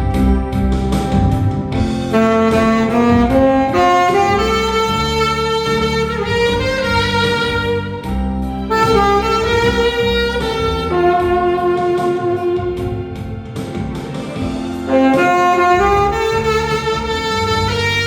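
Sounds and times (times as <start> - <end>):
backing track: 0.0 - 18.0
tenor saxophone melody: 2.0 - 18.0.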